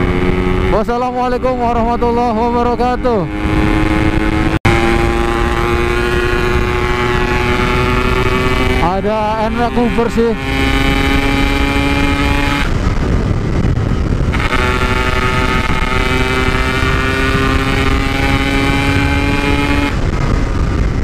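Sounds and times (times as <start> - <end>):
constant rush of noise: 0.0 - 21.0
two-stroke engine running hard: 0.0 - 21.0.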